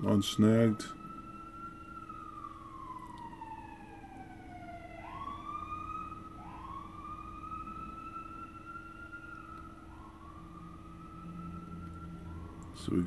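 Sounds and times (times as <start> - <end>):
emergency vehicle siren wailing: 0.0 - 13.0.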